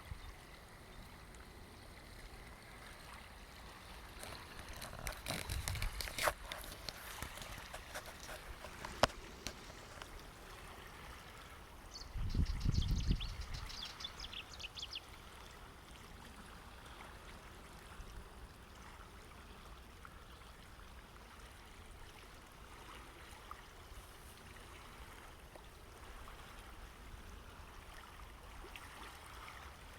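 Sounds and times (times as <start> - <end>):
water lapping against shore: 0.0 - 12.6, 13.2 - 29.9.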